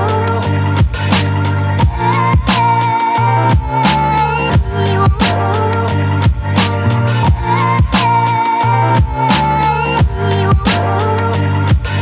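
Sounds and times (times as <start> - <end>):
electronic hip-hop instrumental: 0.0 - 12.0.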